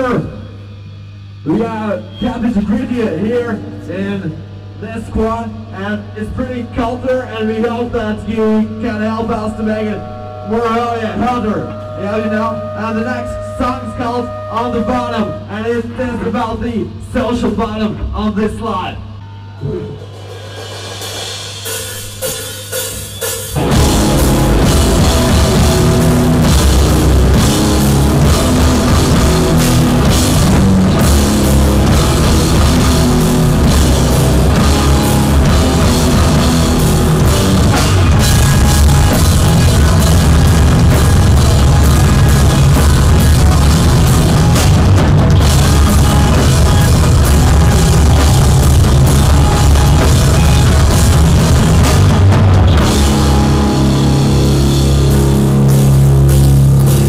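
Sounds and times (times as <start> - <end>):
amplifier hum: 0.0 - 21.4, 23.5 - 57.0
rock band playing loud: 4.5 - 15.6, 19.2 - 57.0.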